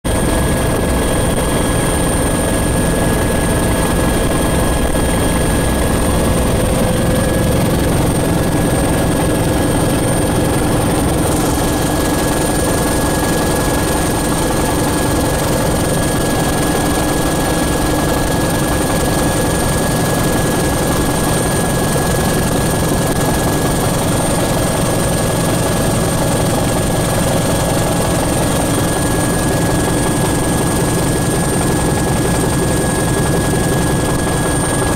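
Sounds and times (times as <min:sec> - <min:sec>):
helicopter cockpit drone: 0:00.1 - 0:34.9.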